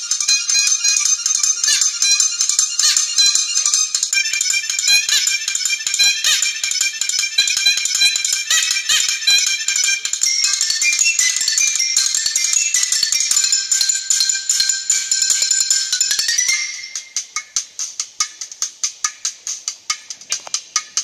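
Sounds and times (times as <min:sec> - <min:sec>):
thin ringing percussion music: 0:00.0 - 0:21.0.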